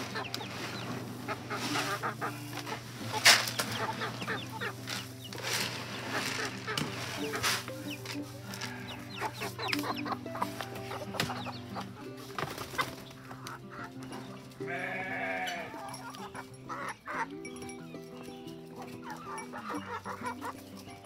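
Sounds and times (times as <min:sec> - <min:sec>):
background music with held notes: 0:00.0 - 0:21.0
chickens clucking: 0:00.0 - 0:21.0.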